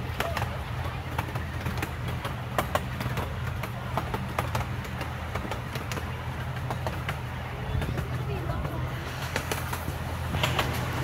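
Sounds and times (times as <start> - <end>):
ride train rumbling on track: 0.0 - 11.0
wheels clacking over rail joints: 0.0 - 11.0.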